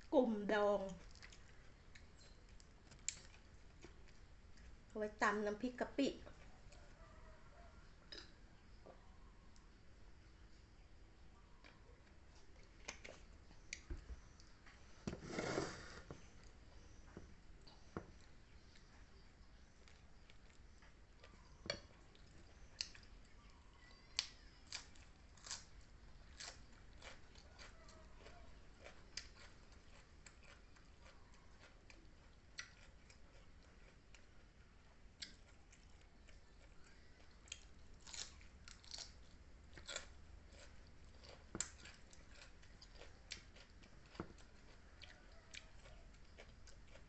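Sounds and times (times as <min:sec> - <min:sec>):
person chewing: 0:01.0 - 0:04.9, 0:11.5 - 0:47.0.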